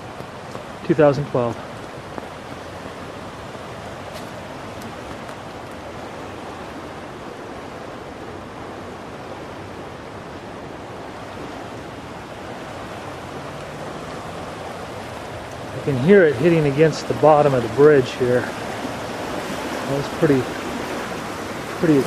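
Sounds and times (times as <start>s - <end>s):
creek rushing: 0.0s - 22.0s.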